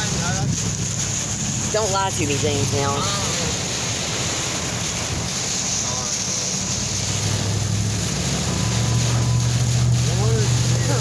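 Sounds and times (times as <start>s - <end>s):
truck engine humming: 0.0s - 11.0s
wind and storm noise: 0.0s - 11.0s.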